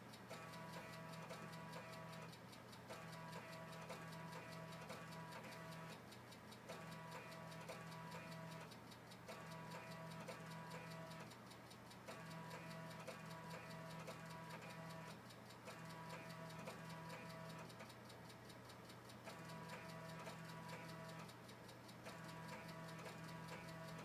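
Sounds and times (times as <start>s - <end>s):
computer low hum: 0.0s - 6.0s, 6.7s - 24.0s
faint fast ticking: 0.0s - 24.0s.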